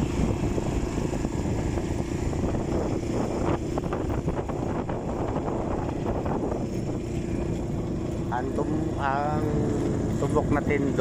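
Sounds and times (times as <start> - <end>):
quad bike engine running: 0.0 - 11.0
wind buffeting microphone: 0.0 - 11.0.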